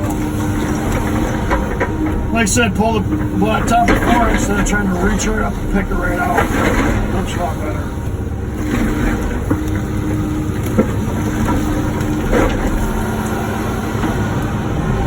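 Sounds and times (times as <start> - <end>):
excavator running: 0.0 - 15.0
steady whine: 0.0 - 15.0.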